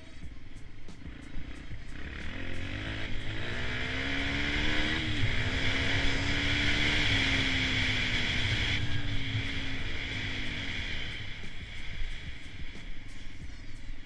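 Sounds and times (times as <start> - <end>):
dirt bike engine accelerating: 0.0 - 13.7.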